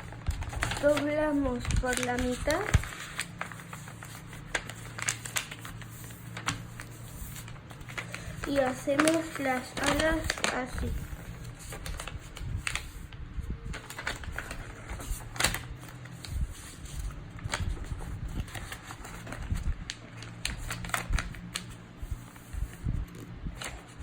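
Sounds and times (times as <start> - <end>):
paper being folded and creased: 0.0 - 24.0.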